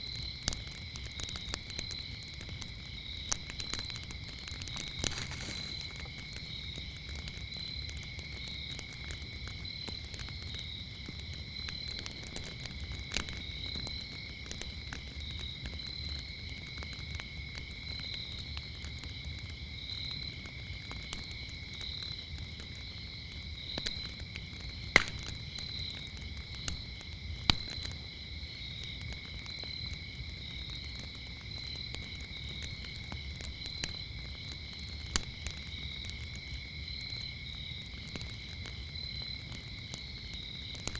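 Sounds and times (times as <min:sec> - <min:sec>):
crickets chirping: 0:00.0 - 0:40.9
wood fire crackling: 0:00.0 - 0:40.9.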